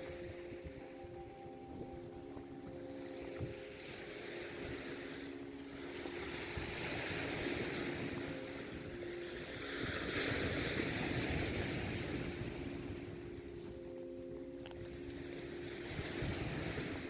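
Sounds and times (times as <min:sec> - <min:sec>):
surf washing on shore: 0:00.0 - 0:17.0.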